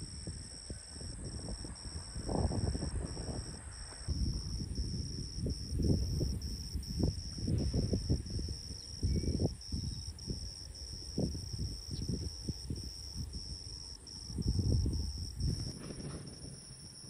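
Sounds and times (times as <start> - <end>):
insects trilling: 0.0 - 17.0
wind buffeting microphone: 0.0 - 17.0.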